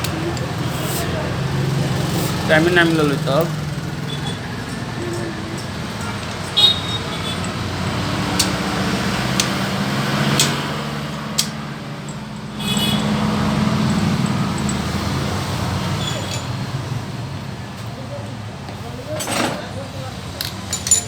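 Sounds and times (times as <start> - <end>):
metal tools clinking: 0.0 - 16.8, 19.0 - 21.0
low traffic hum: 0.0 - 21.0.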